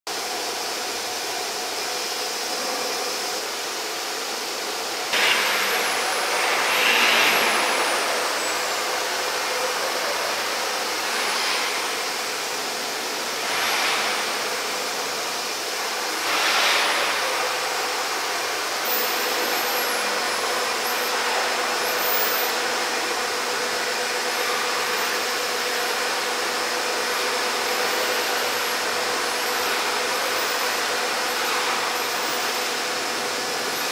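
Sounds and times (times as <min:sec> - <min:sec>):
machinery hissing and humming: 0:00.1 - 0:33.9.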